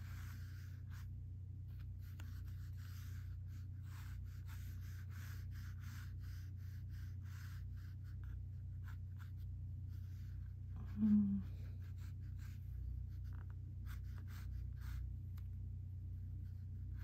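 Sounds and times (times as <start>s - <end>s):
pencil scratching on paper: 0.0s - 10.9s, 11.7s - 15.1s, 16.2s - 17.0s
low steady hum: 0.0s - 17.0s.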